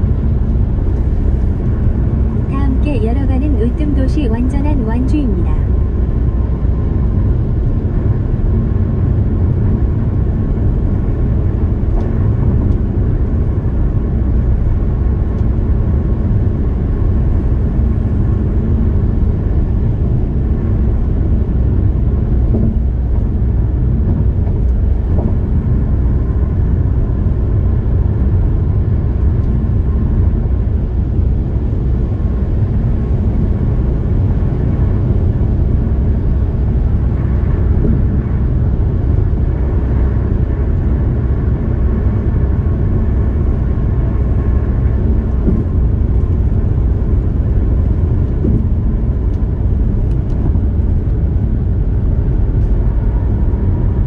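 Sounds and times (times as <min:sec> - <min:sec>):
car engine hum: 0:00.0 - 0:54.0
car road and tyre noise: 0:00.0 - 0:54.0.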